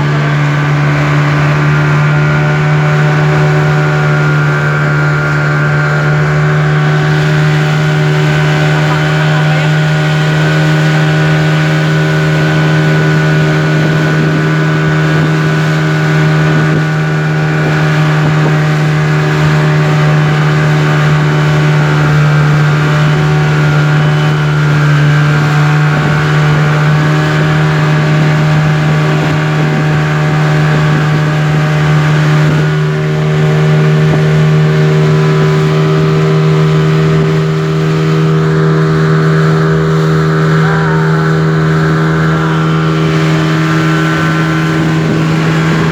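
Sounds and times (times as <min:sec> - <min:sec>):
speedboat engine drone: 0:00.0 - 0:45.9.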